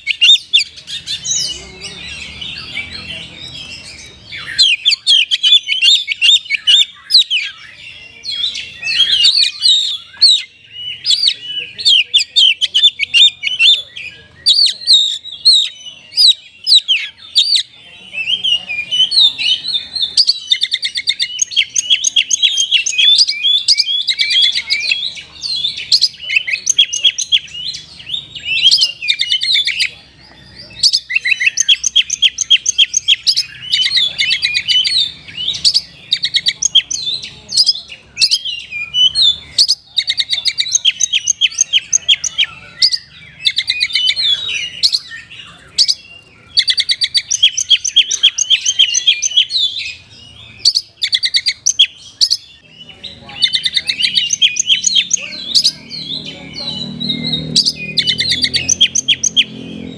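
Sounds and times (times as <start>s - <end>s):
songbird chattering trilled song: 0.0s - 59.9s.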